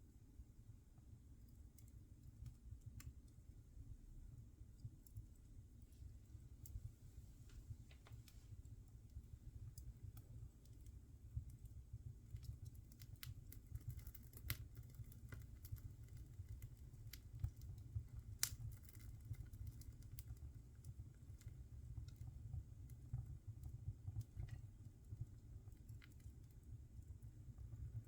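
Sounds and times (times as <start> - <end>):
low rumble of fire: 0.0 - 28.0
wood fire crackling: 1.4 - 3.5, 4.2 - 28.0.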